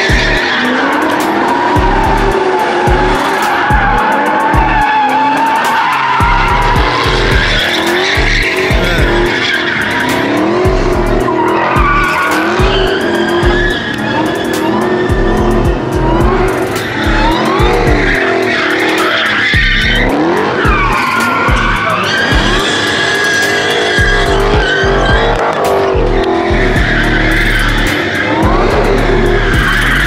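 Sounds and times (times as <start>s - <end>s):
background music with steady beat: 0.0s - 30.0s
car engines revving: 0.0s - 30.0s
tire squeal: 0.0s - 30.0s.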